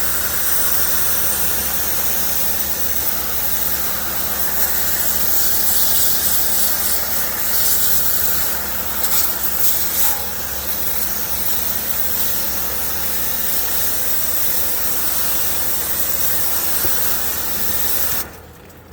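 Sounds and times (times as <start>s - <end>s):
high-pressure water spray hissing: 0.0s - 18.3s
motor humming: 0.0s - 18.7s.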